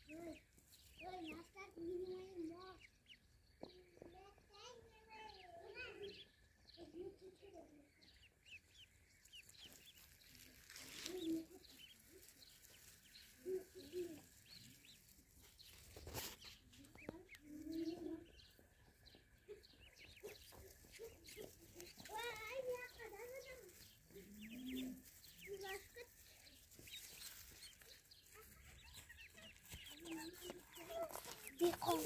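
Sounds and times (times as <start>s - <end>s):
ducklings peeping: 0.0s - 32.0s.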